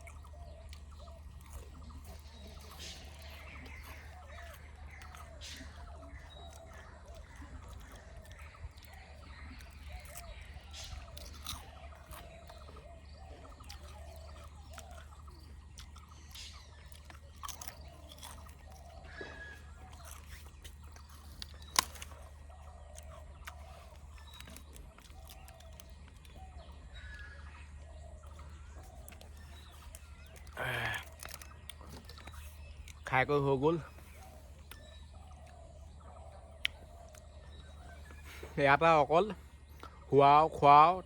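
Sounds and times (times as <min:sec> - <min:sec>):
chewing crunchy chips: 0:00.0 - 0:41.0
faint bird calls: 0:00.0 - 0:41.0.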